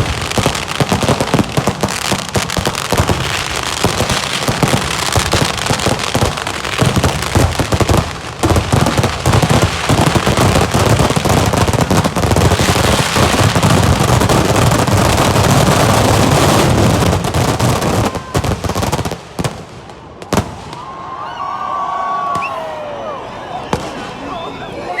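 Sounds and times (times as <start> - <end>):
firecrackers exploding: 0.0 - 20.9.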